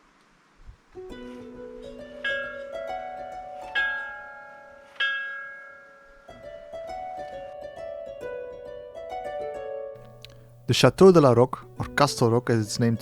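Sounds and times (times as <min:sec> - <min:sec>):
plucked strings music: 0:01.0 - 0:13.0.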